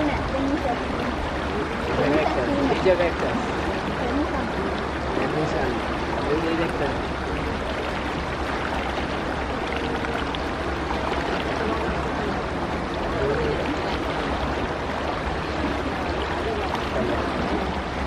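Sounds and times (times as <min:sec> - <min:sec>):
low engine drone: 0:00.0 - 0:18.0
water rushing along hull: 0:00.0 - 0:18.0.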